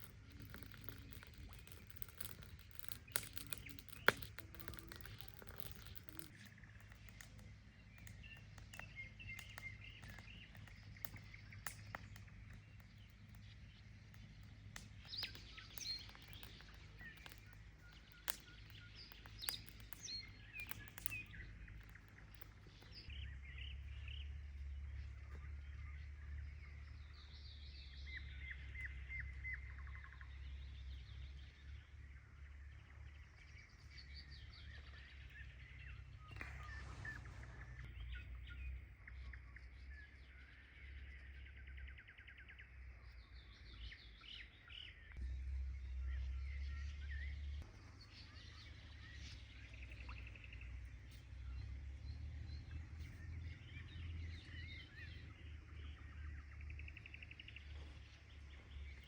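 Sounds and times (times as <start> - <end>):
low steady rumble: 0.0 - 59.0
small birds chirping: 0.0 - 59.0.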